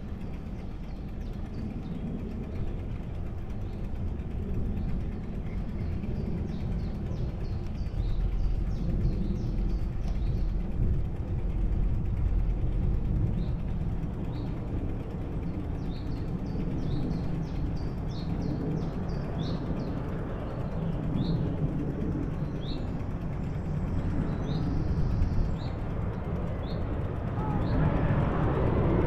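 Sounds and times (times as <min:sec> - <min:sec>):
low rumble of wind: 0:00.0 - 0:29.0.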